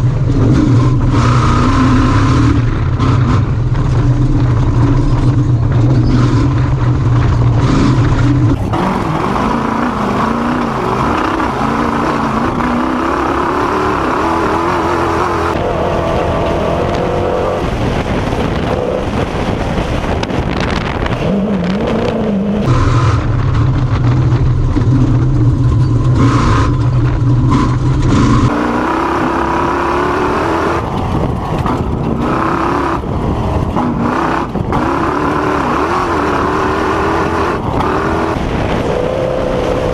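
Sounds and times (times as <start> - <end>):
race vehicle engine revving: 0.0 - 39.9.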